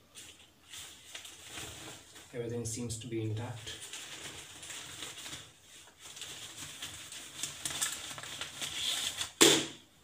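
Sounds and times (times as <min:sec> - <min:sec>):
fabric bag rustling and crinkling: 0:00.1 - 0:09.4.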